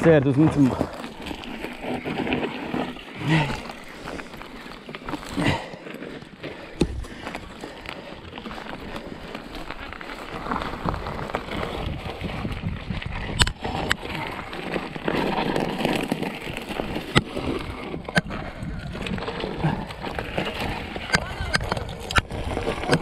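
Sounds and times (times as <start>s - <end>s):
bike rattling over bumps: 0.0s - 23.0s
bike tyres rushing on dirt trail: 0.0s - 23.0s.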